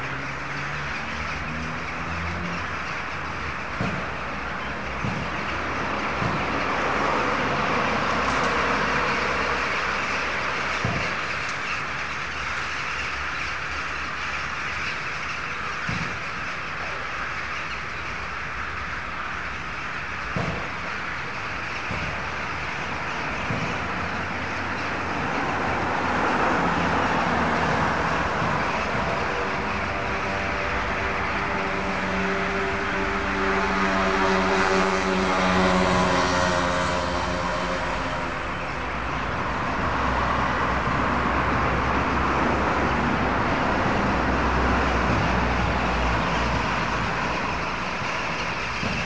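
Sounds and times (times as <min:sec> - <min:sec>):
flock of birds calling: 0:00.0 - 0:49.0
traffic rumble: 0:00.0 - 0:49.0.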